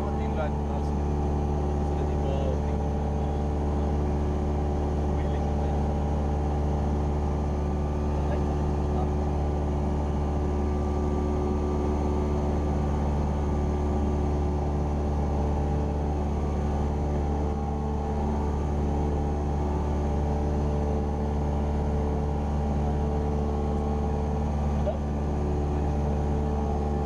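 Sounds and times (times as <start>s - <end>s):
airplane engine and propeller droning: 0.0s - 27.0s.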